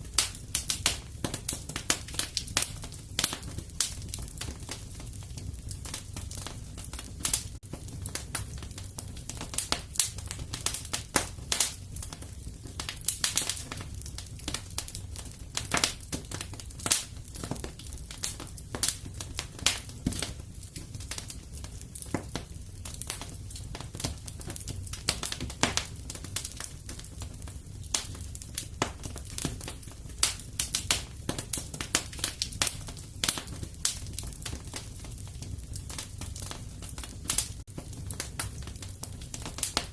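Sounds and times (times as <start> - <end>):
fire crackling: 0.0 - 39.9
low fire rumble: 0.0 - 39.9.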